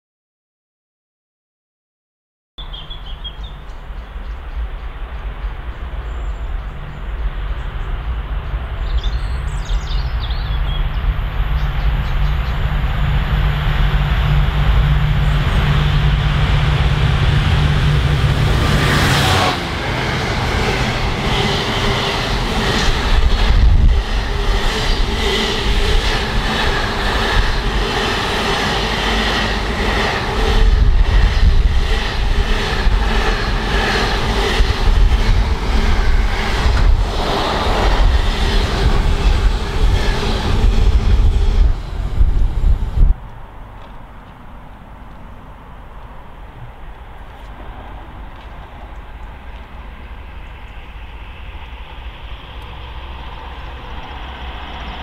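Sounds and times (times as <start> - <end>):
diesel locomotive passing: 2.6 - 55.0.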